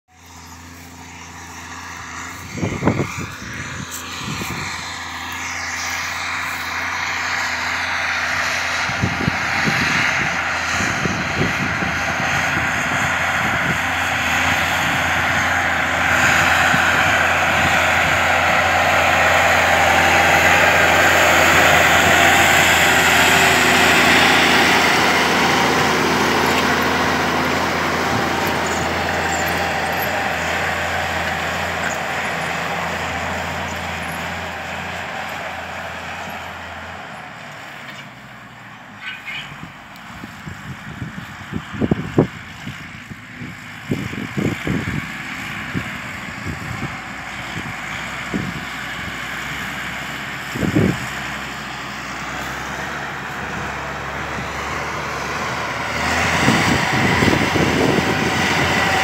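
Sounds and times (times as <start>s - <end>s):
tractor diesel engine under load: 0.1s - 59.0s.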